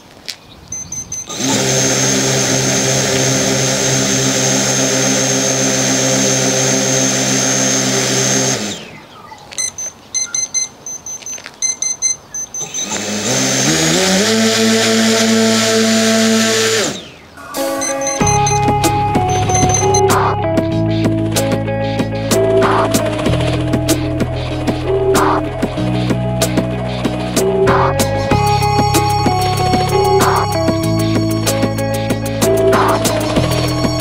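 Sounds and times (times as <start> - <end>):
drone motor spinning propeller: 1.2 - 9.0, 12.6 - 17.2, 18.2 - 34.0.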